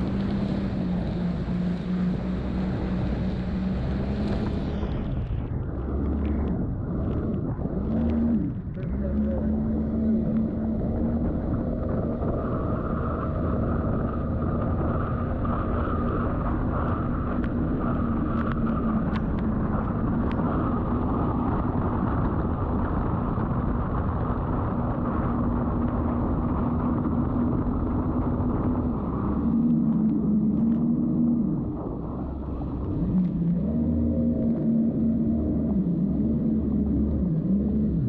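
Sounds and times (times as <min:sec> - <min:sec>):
rushing water: 0:00.0 - 0:23.5, 0:24.6 - 0:38.0
jet ski engine drone: 0:00.0 - 0:38.0
wind noise: 0:00.0 - 0:38.0.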